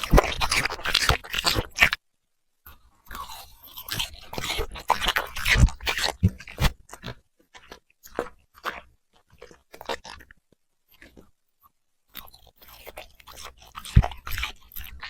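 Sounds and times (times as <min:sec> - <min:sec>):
puppy crunching food: 0:00.0 - 0:02.0, 0:03.0 - 0:11.3, 0:12.1 - 0:15.0.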